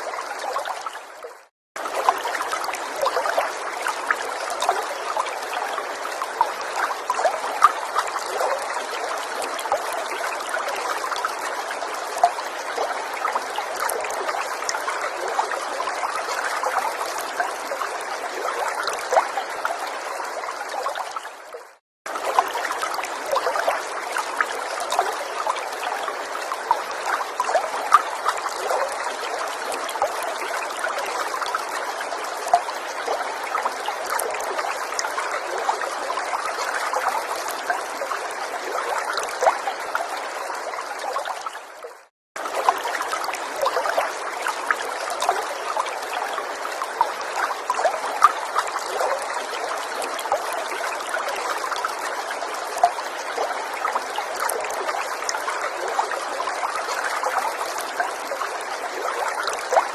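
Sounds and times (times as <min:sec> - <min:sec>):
small stream trickling: 0:00.0 - 0:59.9.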